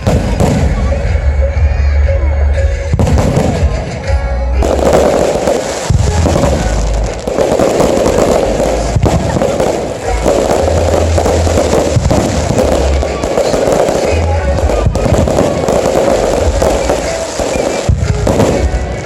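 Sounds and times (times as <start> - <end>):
fireworks booming and crackling: 0.0 - 19.0
music playing: 0.0 - 19.0.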